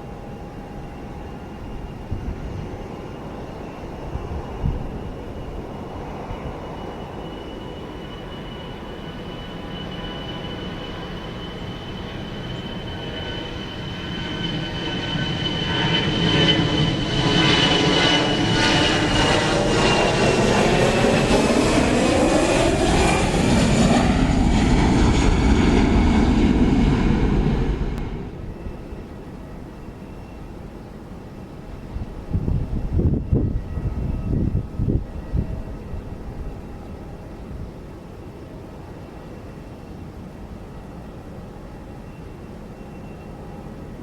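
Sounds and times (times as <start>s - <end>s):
airliner engines passing: 0.0s - 44.0s.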